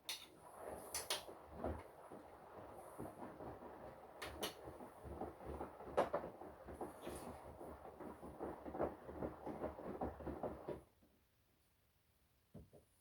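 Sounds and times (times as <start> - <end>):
laundry tumbling in drum: 0.4 - 10.9.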